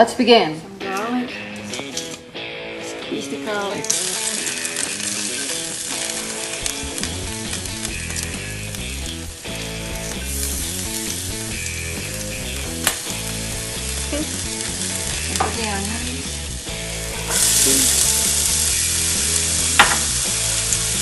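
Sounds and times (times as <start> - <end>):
onion sizzling in hot oil: 3.6 - 21.0.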